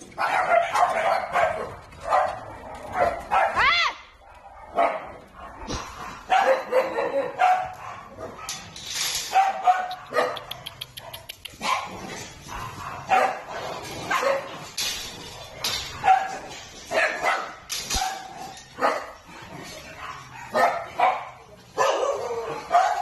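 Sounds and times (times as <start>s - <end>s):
dogs barking: 0.1s - 23.0s.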